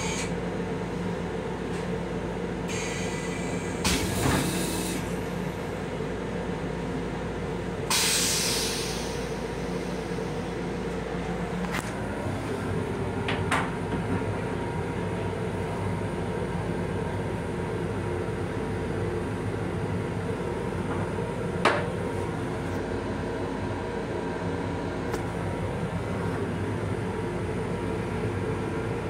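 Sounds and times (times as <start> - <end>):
railcar rumble and hum: 0.0 - 29.0.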